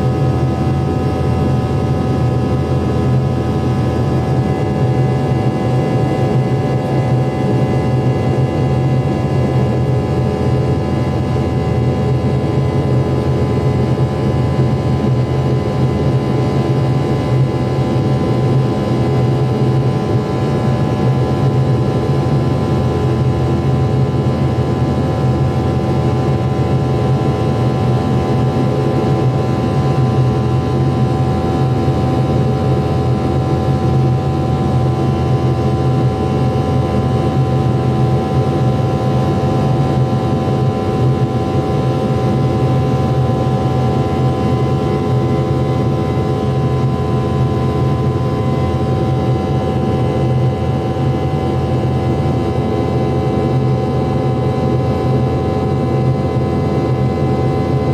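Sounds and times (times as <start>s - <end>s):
jet engine cabin drone: 0.0s - 57.9s.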